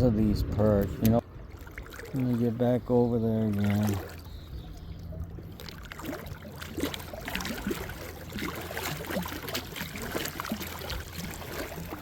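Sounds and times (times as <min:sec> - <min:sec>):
low steady hum: 0:00.0 - 0:12.0
water splashing and trickling: 0:01.0 - 0:12.0.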